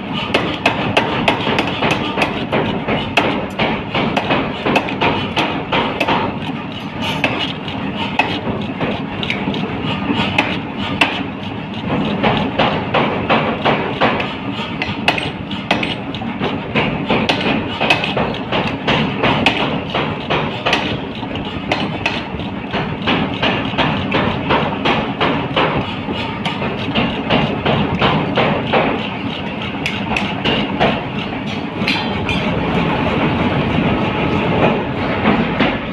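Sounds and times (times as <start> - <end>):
power hammer striking hot steel: 0.0 - 33.2.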